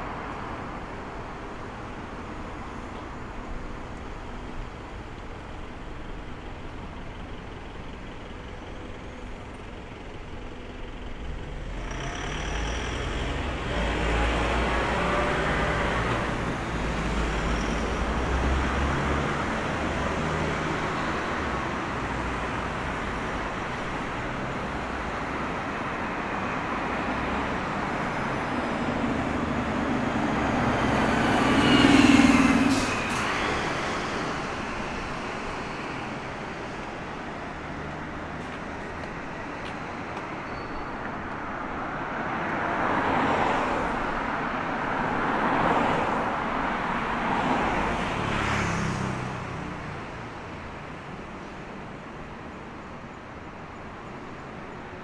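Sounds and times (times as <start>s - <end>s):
heavy vehicles passing: 0.0s - 55.0s.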